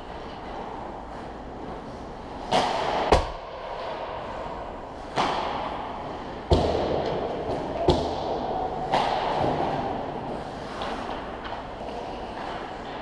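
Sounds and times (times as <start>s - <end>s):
hockey stick hitting puck: 2.4s - 13.0s.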